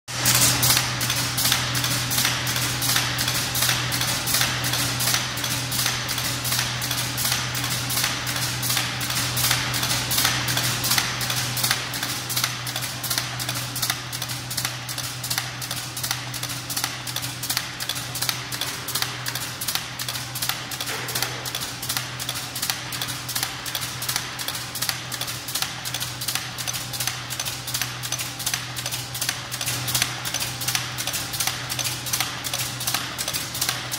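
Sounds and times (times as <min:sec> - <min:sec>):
rapid metallic clatter of press: 0:00.1 - 0:33.9
steady low machine hum: 0:00.1 - 0:33.9.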